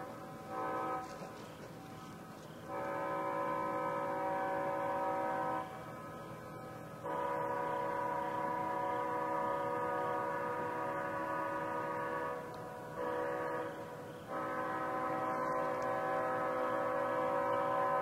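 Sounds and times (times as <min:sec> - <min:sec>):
locomotive air horn blasts: 0:00.0 - 0:18.0.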